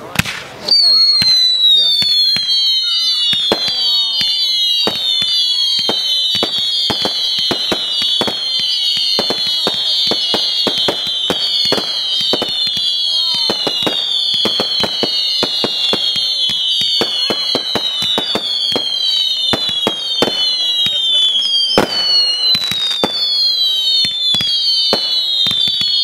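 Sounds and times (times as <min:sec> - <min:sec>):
firework pops and cracks: 0:00.0 - 0:26.0
falling firework whistles: 0:00.6 - 0:26.0.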